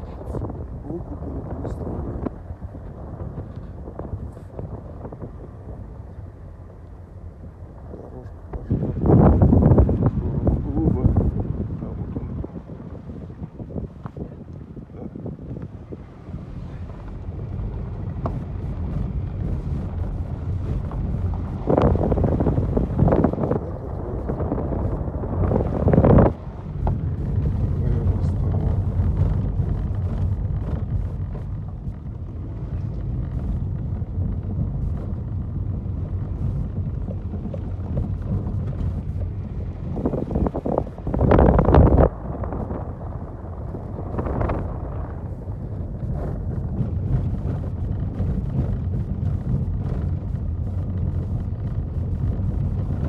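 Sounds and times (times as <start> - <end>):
car engine and tyres rumbling: 0.0 - 53.0
wind buffeting microphone: 0.0 - 53.0.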